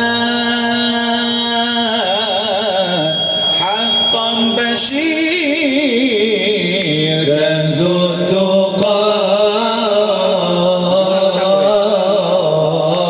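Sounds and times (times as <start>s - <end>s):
man singing melismatic line: 0.0s - 13.0s
steady held drone: 0.0s - 13.0s.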